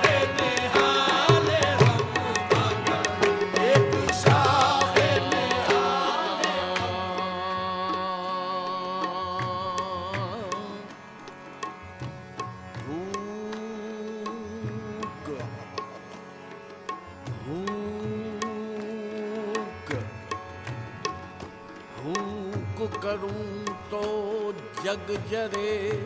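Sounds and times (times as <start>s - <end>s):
tabla steady rhythm: 0.0s - 26.0s.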